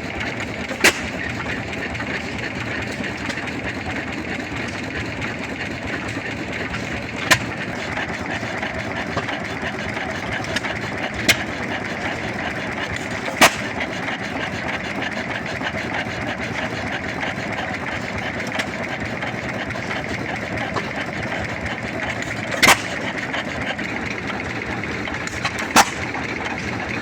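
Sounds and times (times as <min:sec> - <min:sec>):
stationary engines running: 0:00.0 - 0:27.0.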